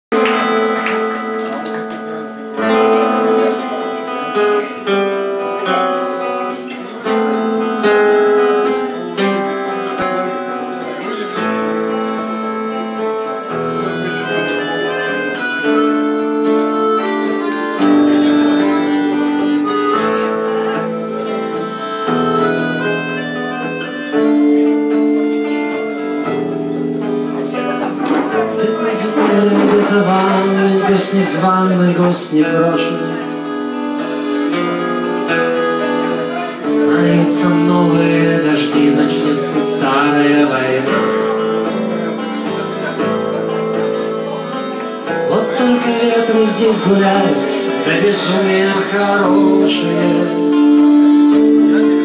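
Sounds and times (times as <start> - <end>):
guitar instrumental music: 0.1 - 52.0
melody of long held notes: 0.1 - 52.0.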